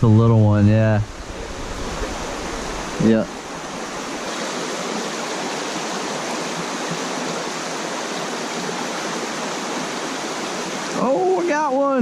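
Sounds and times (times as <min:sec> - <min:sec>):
stream rushing over rocks: 0:01.1 - 0:12.0.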